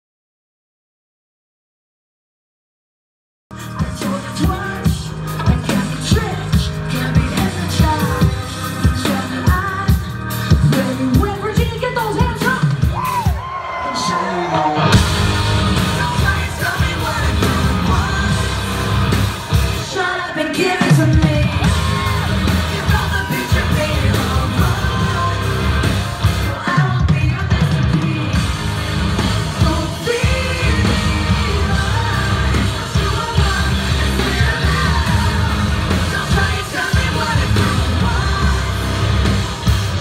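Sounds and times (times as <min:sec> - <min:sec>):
live rock band playing: 0:03.5 - 0:40.0
person singing and yelling: 0:03.5 - 0:40.0.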